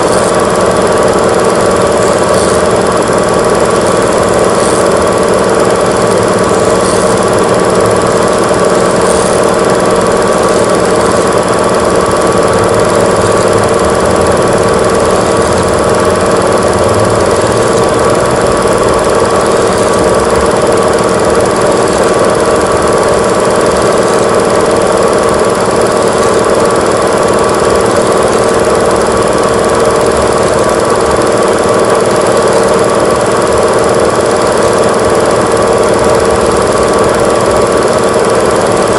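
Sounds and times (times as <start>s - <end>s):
film camera rattling and whirring: 0.0s - 38.9s.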